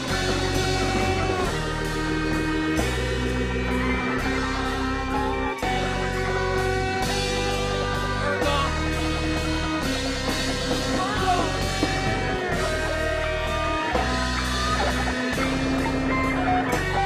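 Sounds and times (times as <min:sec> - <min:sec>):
bass line held notes: 0:00.0 - 0:17.0
rock band instrumental: 0:00.0 - 0:17.0.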